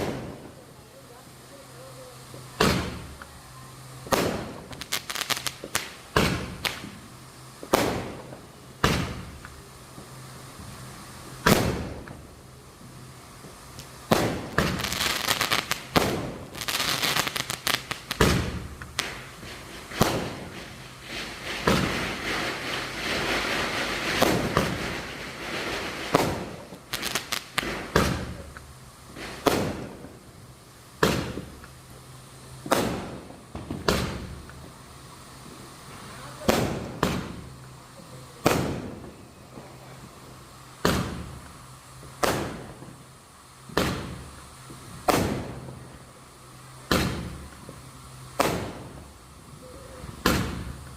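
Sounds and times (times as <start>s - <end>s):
firecracker bangs: 0.0s - 0.6s, 2.4s - 3.2s, 4.0s - 12.3s, 13.4s - 30.2s, 31.0s - 31.8s, 32.6s - 34.8s, 35.5s - 37.6s, 38.2s - 39.8s, 40.8s - 43.0s, 43.6s - 45.9s, 46.8s - 49.1s, 50.1s - 50.9s
rapid firecracker crackling: 0.0s - 50.9s.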